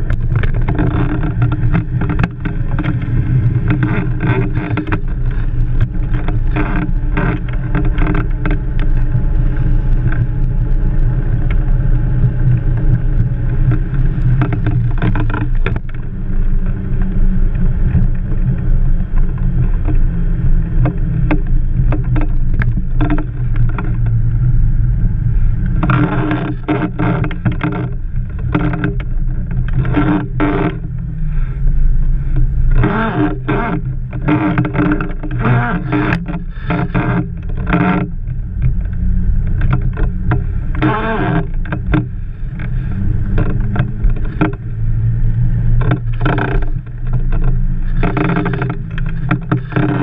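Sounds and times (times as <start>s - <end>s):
short rattles and knocks: 0.0s - 24.3s, 25.4s - 31.1s, 32.2s - 50.0s
low rumble of wind and wheels: 0.0s - 50.0s.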